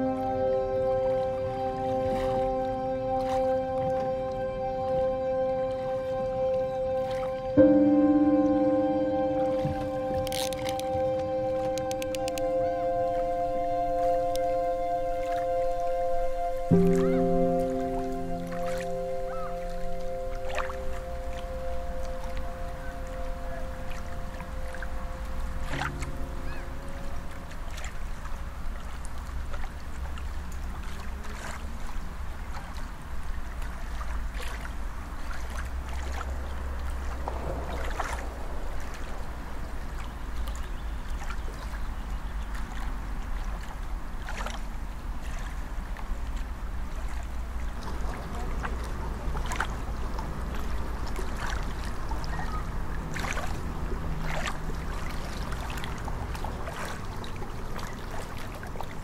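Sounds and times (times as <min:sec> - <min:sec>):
low wind rumble: 0:00.0 - 0:59.0
soft water splashes: 0:00.0 - 0:59.0
water lapping: 0:00.0 - 0:59.0.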